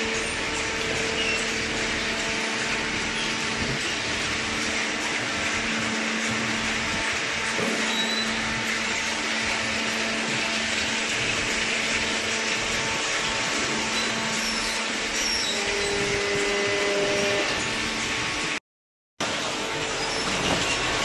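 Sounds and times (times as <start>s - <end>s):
steady machine tone: 0.0s - 18.1s
motor hum: 0.0s - 18.6s.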